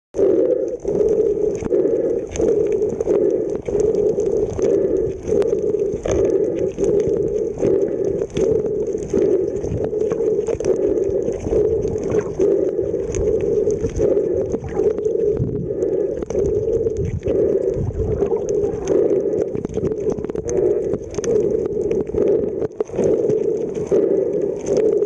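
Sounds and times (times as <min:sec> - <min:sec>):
pulsing underwater hum: 0:00.1 - 0:25.0
faint clicks: 0:00.2 - 0:25.0.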